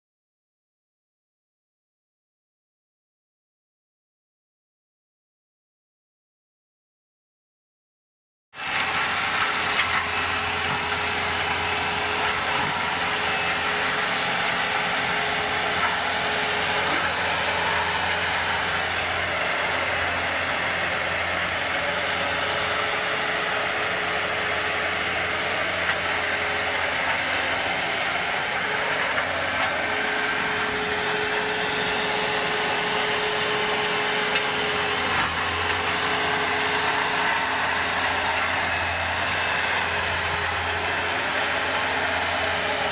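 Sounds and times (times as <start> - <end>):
mulcher shredding brush: 8.6 - 42.9
tractor running under load: 8.6 - 42.9.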